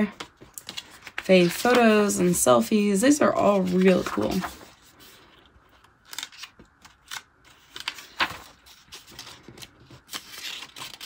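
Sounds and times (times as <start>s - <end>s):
paper pages turning: 0.0s - 11.0s.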